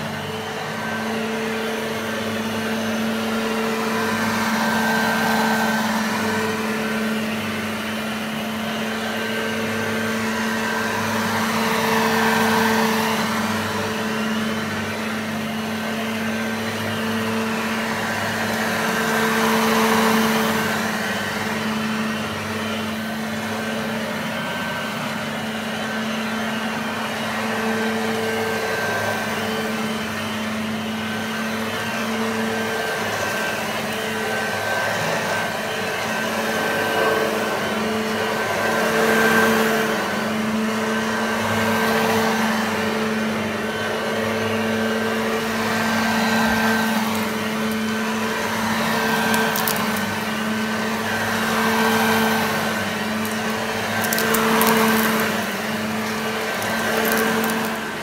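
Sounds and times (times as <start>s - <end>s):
vacuum cleaner motor hum: 0.0s - 58.0s.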